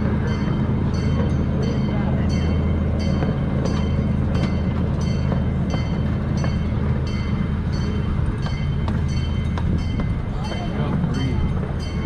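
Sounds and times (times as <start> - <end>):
miniature train drone: 0.0 - 12.0
wheels clicking over rail joints: 0.0 - 12.0.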